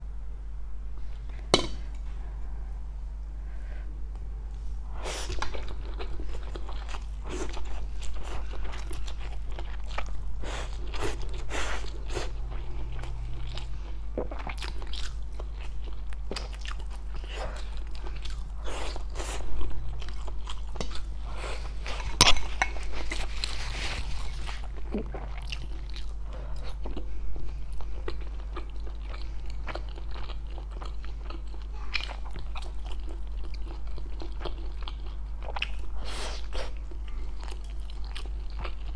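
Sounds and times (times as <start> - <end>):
low steady hum: 0.0 - 38.9
chewing and crunching: 5.2 - 38.9.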